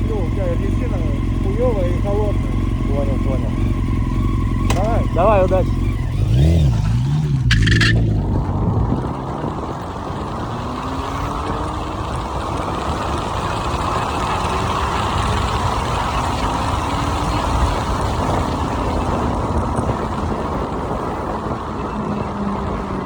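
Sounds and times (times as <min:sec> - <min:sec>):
faint motorcycle engine accelerating: 0:00.0 - 0:23.0
wind buffeting microphone: 0:00.0 - 0:23.0.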